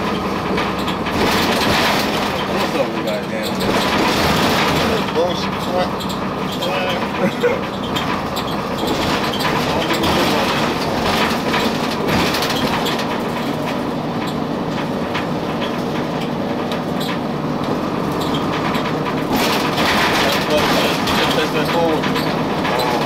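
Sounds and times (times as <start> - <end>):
body rattles and clicks: 0.0 - 23.0
bus diesel engine running: 0.0 - 23.0
road rumble: 0.0 - 23.0.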